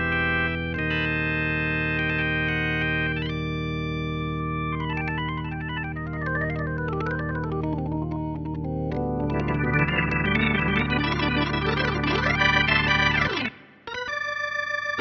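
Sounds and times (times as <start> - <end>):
organ with rotary sound: 0.0 - 15.0.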